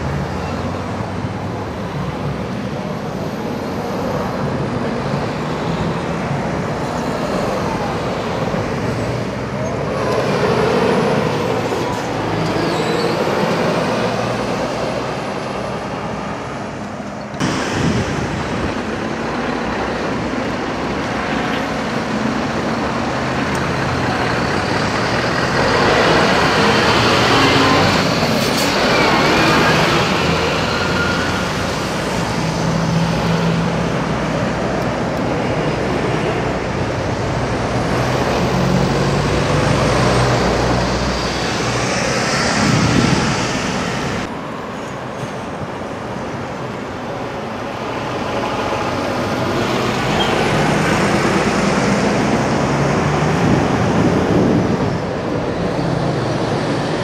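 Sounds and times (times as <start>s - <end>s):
diesel lorries passing: 0.0s - 57.0s
tyre noise on road: 0.0s - 57.0s.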